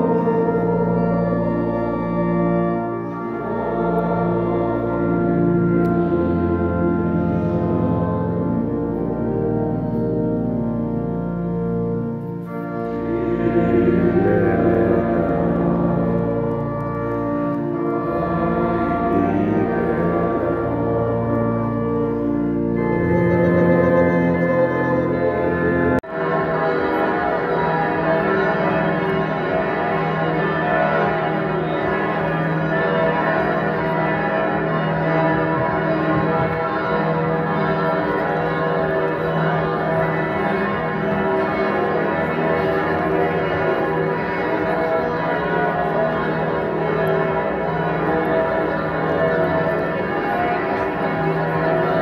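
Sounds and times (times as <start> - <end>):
large church bells pealing: 0.0 - 52.0.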